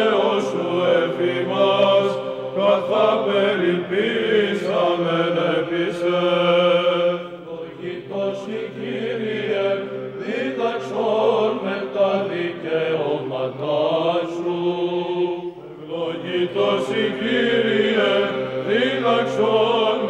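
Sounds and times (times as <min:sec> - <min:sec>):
male choir chanting: 0:00.0 - 0:20.0.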